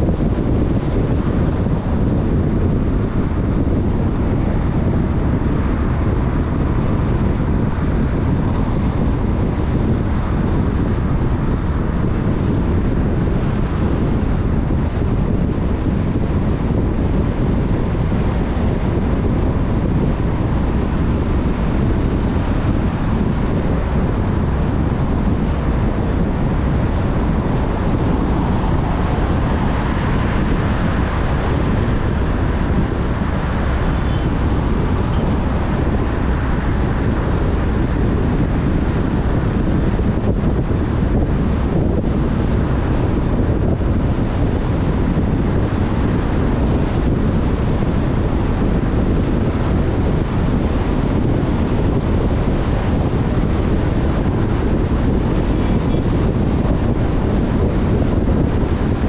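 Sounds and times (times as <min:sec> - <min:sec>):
road and tyre noise: 0:00.0 - 0:59.0
wind rushing over microphone: 0:00.0 - 0:59.0.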